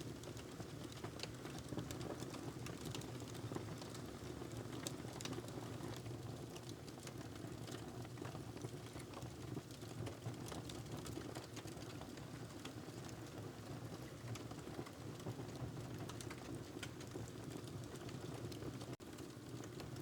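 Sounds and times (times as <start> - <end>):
low rumble of burning fire: 0.0 - 20.0
wood fire crackling and popping: 0.1 - 20.0.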